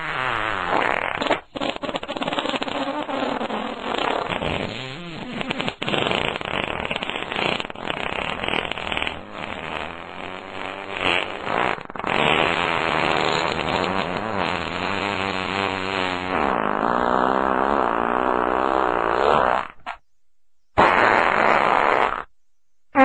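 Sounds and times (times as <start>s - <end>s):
sputtering farts: 0.0s - 20.0s, 20.8s - 22.3s
long pitched fart: 0.0s - 20.1s, 20.8s - 22.4s.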